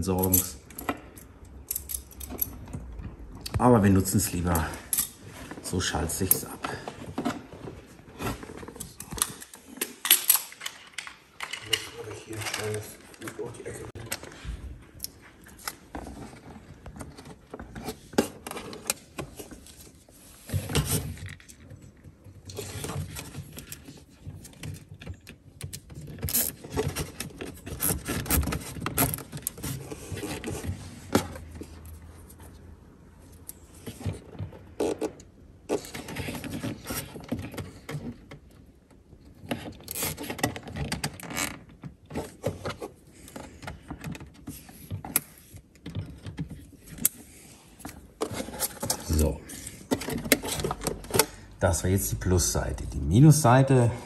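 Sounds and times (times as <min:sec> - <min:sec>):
clicks and scrapes of cable work: 0:00.0 - 0:51.9.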